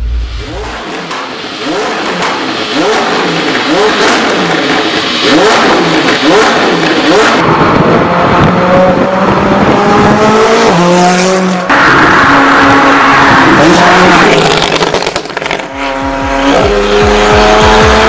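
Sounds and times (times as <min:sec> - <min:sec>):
car engine accelerating: 0:00.0 - 0:18.0
car engine revving: 0:00.0 - 0:18.0.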